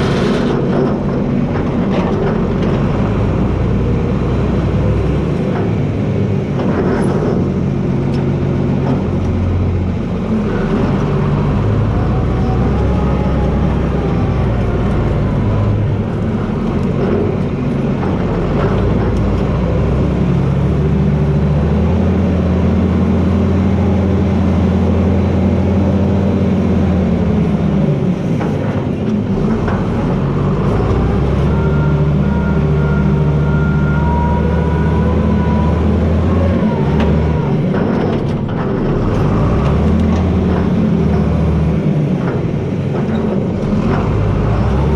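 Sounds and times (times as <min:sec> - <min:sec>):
tractor diesel engine under load: 0:00.0 - 0:44.9.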